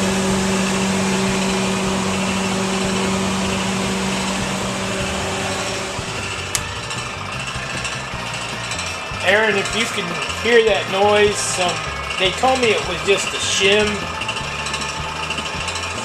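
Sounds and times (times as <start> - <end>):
refrigerator compressor humming: 0.0 - 16.0.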